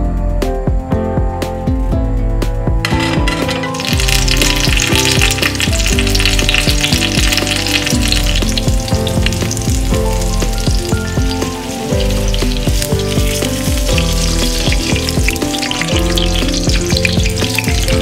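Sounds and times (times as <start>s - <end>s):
background music: 0.0s - 18.0s
potatoes sizzling in oil: 2.9s - 18.0s.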